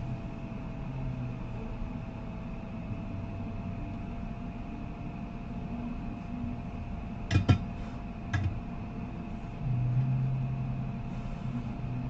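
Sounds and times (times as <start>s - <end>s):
electrical hum: 0.0s - 12.0s
loud low hum: 0.0s - 12.0s.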